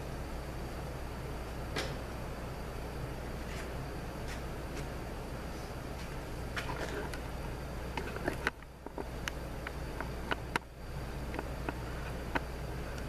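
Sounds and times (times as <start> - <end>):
steady shop hum: 0.0 - 13.0.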